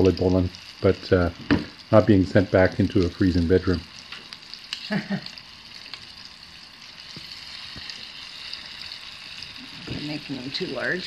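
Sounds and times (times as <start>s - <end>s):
dough deep-frying in hot oil: 0.0s - 11.0s.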